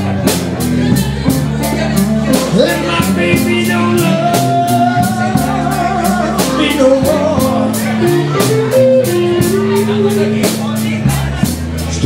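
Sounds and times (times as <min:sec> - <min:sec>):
drum kit cymbal beat: 0:00.0 - 0:12.0
electric bass: 0:00.0 - 0:12.0
electric guitar: 0:00.0 - 0:12.0
man singing: 0:01.9 - 0:12.0.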